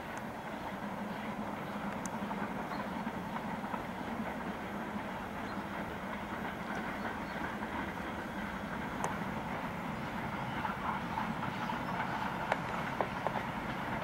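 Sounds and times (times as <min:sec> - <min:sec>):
distant steam train rumbling: 0:00.0 - 0:14.0.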